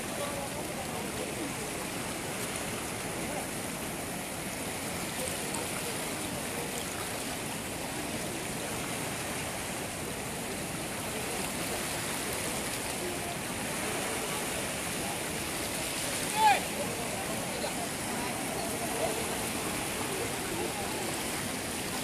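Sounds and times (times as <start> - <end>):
river rushing in flood: 0.0 - 22.0.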